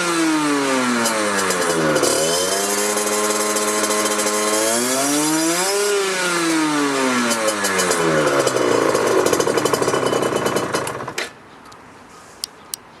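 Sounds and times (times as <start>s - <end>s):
two-stroke engine revving and idling: 0.0s - 11.3s.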